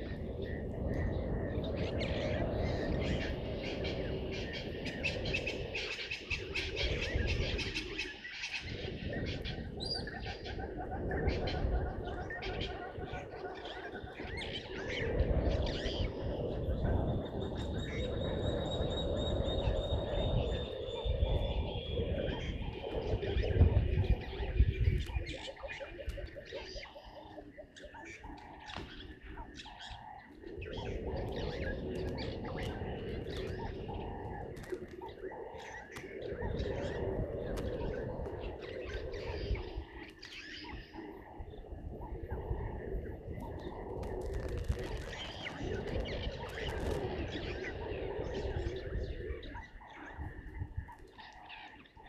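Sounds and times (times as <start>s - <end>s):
bird calls: 0.0s - 52.0s.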